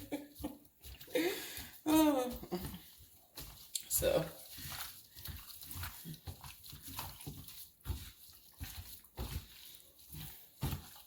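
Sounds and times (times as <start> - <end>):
wet squelches of mixing chicken: 0.0 - 11.0.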